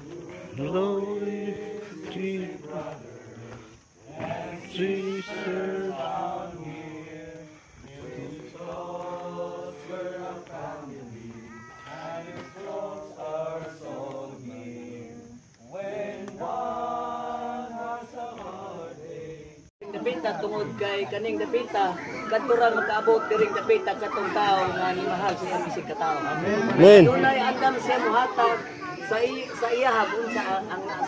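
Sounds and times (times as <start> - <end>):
voices chanting: 0.0 - 31.0.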